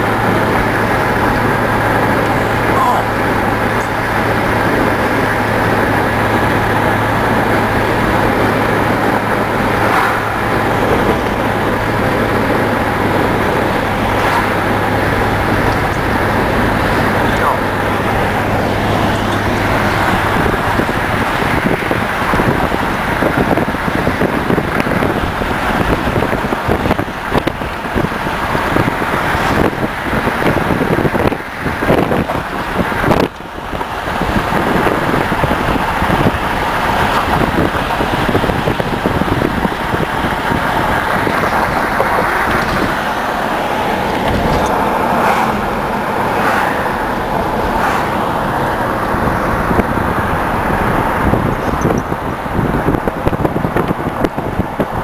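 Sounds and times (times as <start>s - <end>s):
car driving tyre and wind noise: 0.0s - 55.0s.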